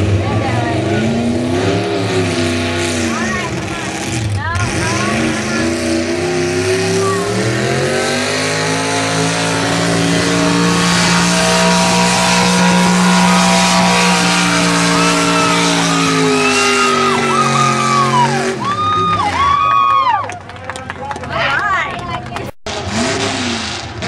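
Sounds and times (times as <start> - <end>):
truck engine at full throttle: 0.0 - 24.0.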